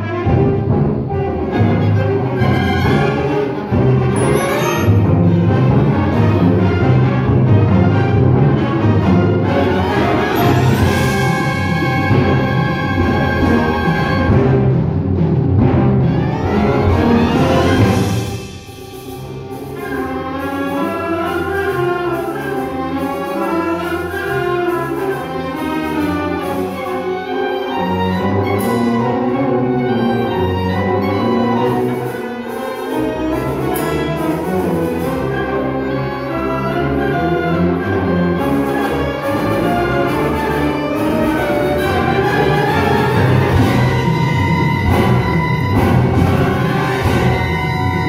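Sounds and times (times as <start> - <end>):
concert band playing: 0.0 - 48.0.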